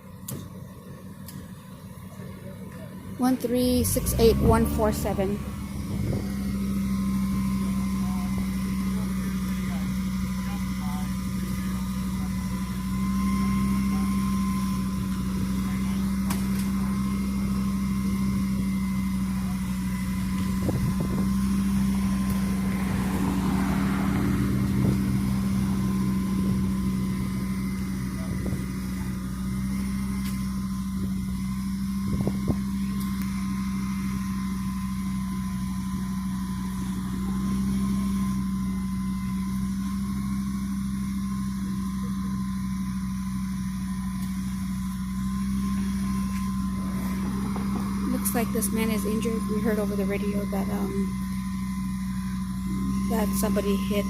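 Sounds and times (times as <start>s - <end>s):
vehicle engine drone: 0.0s - 54.0s.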